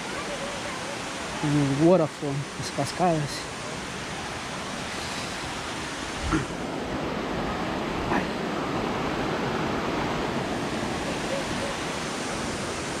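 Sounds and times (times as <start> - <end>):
water rushing through rock gorge: 0.0 - 13.0.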